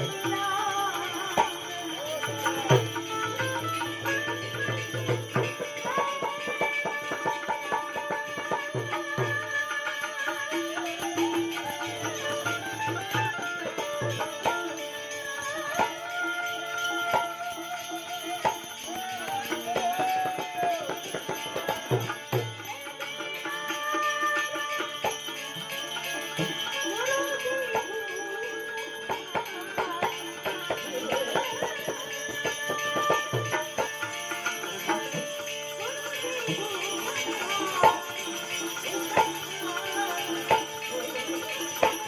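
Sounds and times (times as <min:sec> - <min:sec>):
devotional song melody: 0:00.0 - 0:42.0
jingling hand percussion: 0:00.0 - 0:42.0.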